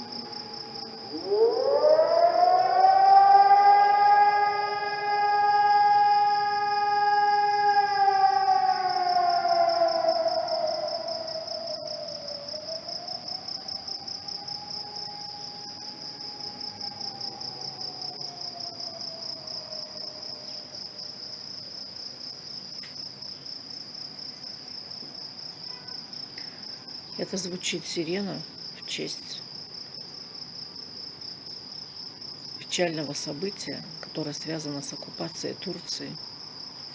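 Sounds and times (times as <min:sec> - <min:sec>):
high insect trill: 0:00.0 - 0:36.9.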